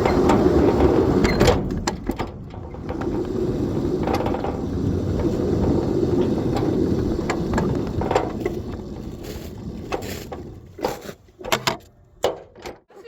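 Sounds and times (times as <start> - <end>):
miniature train rumbling on track: 0.0 - 12.6.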